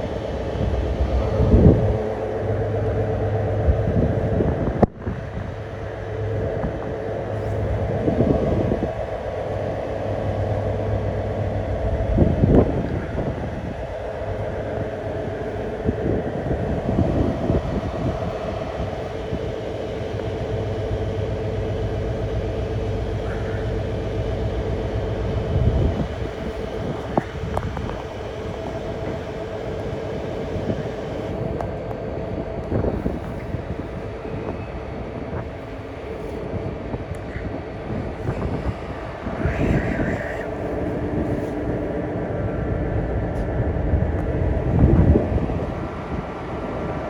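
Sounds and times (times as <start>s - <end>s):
locomotive engine droning: 0.0s - 47.0s.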